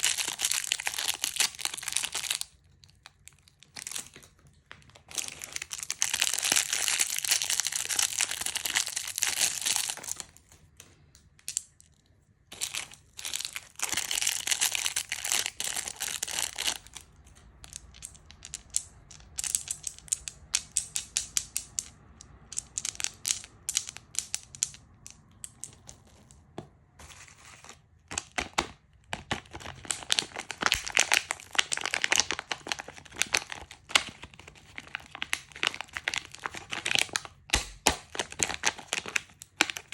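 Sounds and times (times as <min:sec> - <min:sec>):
candy packaging crinkling: 0:00.0 - 0:26.3, 0:27.0 - 0:39.9.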